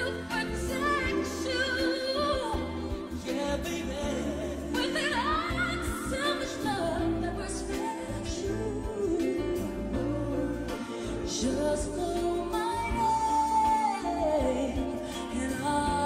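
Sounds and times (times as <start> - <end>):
song with singing voice: 0.0 - 16.0
steady bass: 0.0 - 16.0.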